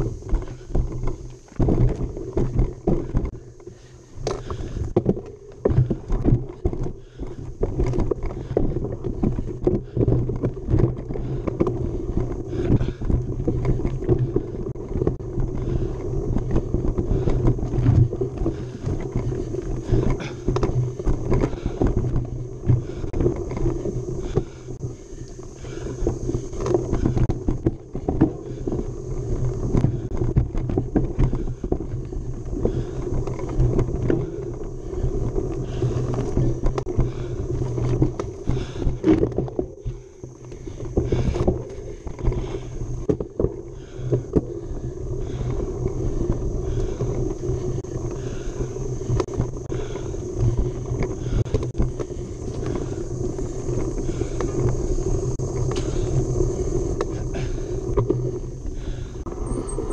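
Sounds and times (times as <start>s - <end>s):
bike knocking and rattling: 0.0s - 59.9s
wind and rolling tyres rumble: 0.0s - 59.9s.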